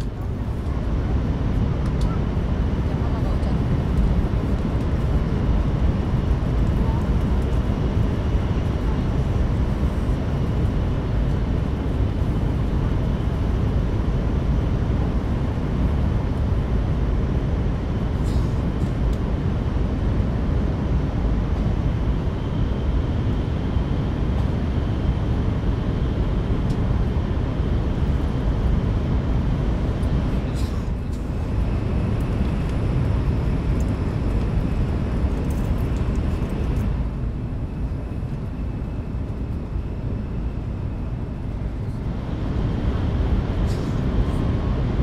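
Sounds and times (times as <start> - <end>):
faint steady whine: 0.0 - 45.0
train rumble inside cabin: 0.0 - 45.0.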